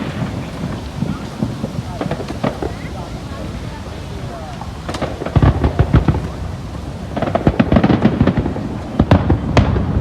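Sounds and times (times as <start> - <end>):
deep fireworks booms: 0.0 - 10.0
fireworks bangs and crackles: 0.0 - 10.0.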